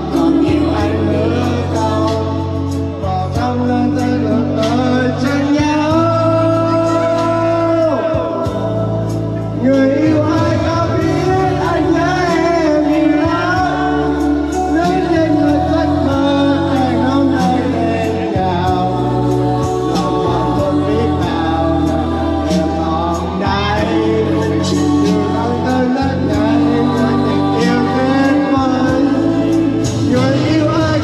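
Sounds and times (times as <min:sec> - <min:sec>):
song with singing over a beat: 0:00.0 - 0:31.0.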